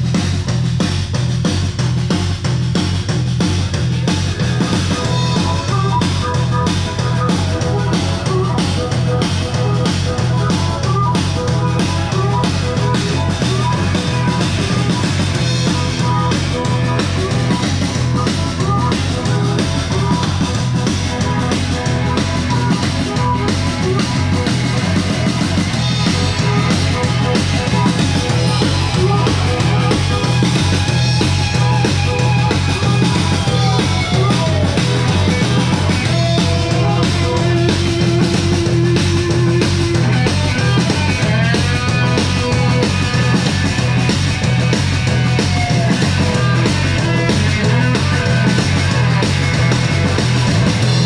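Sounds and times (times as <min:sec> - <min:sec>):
rock music with drum kit: 0:00.0 - 0:51.0.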